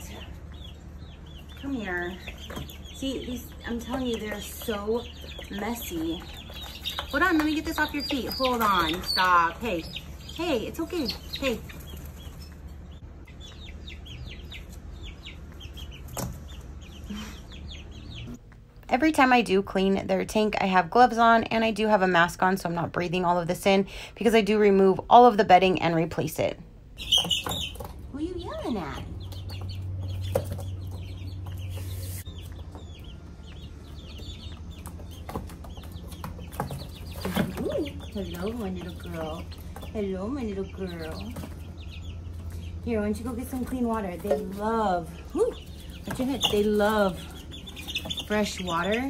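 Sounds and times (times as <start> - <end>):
chicks peeping: 0.0 - 23.5, 27.0 - 49.0.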